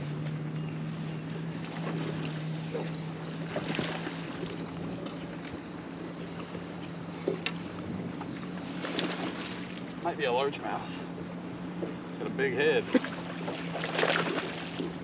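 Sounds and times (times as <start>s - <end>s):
electric trolling motor humming: 0.0s - 15.0s
waves lapping at boat hull: 0.0s - 15.0s
wind: 0.0s - 15.0s.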